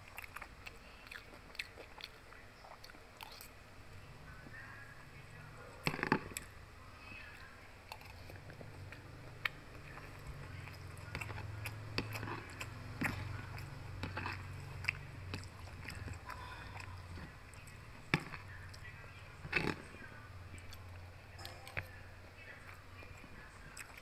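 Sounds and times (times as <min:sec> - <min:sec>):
close chewing of food: 0:00.0 - 0:03.7, 0:04.4 - 0:06.6, 0:07.2 - 0:24.0.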